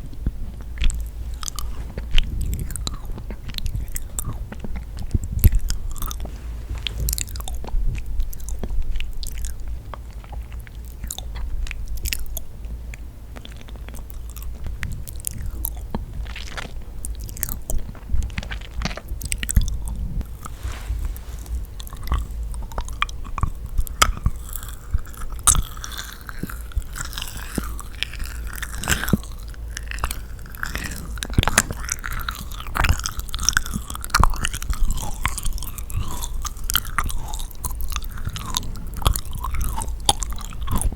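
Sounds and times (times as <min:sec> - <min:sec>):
close chewing and biting: 0:00.0 - 0:40.9
sticky mouth sounds: 0:00.0 - 0:40.9.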